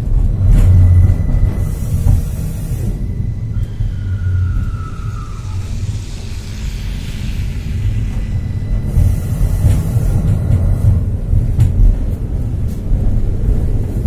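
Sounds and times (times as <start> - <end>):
thin whine: 0.0 - 11.4
falling whine: 0.0 - 11.6
tram wheels rumbling on rails: 0.0 - 14.0.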